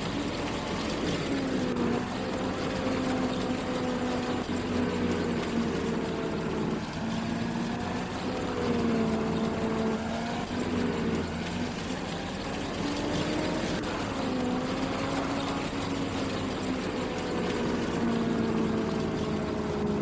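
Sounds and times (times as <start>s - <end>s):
combine harvester engine hum: 0.0s - 20.0s.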